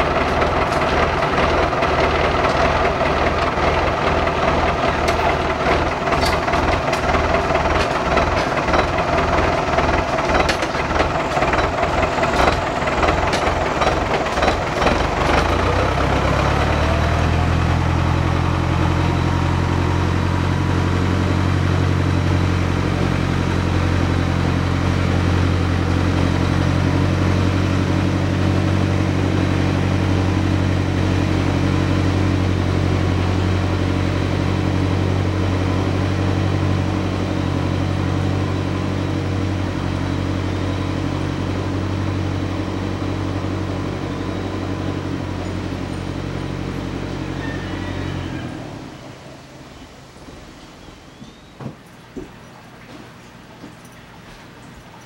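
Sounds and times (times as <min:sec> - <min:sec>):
tractor engine running: 0:00.0 - 0:50.6.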